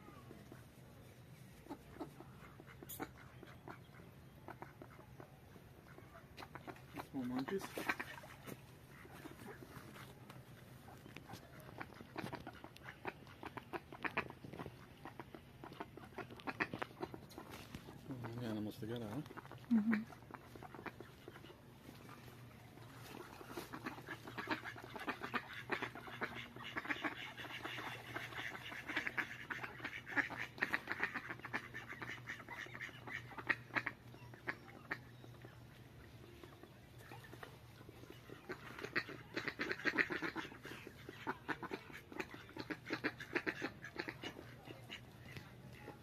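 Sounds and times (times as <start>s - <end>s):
ducks quacking: 1.5s - 46.0s.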